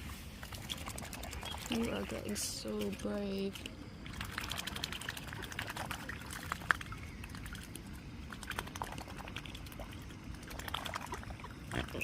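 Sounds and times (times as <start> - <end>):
small splashes: 0.4 - 12.0
swans dabbling with wet clicks: 0.4 - 12.0.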